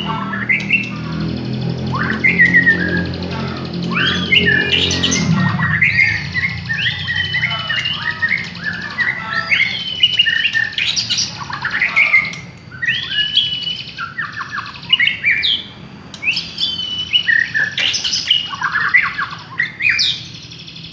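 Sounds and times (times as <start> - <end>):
bird singing whistled phrases: 0.0 - 20.4.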